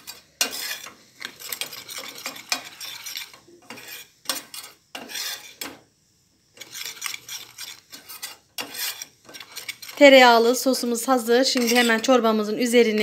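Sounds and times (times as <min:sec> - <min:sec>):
metal spoon scraping saucepan: 0:00.0 - 0:05.8, 0:06.6 - 0:12.3.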